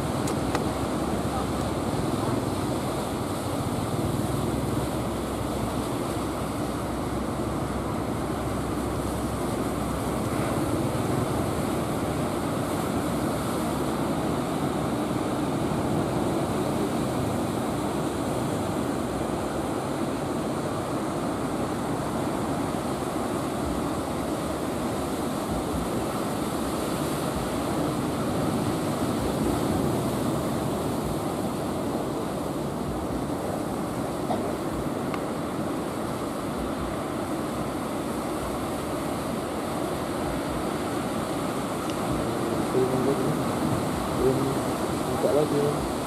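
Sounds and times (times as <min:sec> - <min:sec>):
ocean surf breaking: 0:00.0 - 0:46.0.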